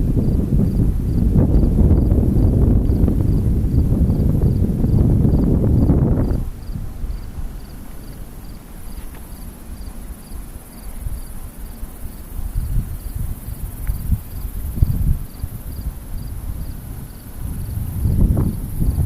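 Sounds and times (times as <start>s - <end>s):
crickets chirping: 0.0s - 19.0s
wind buffeting microphone: 0.0s - 19.0s.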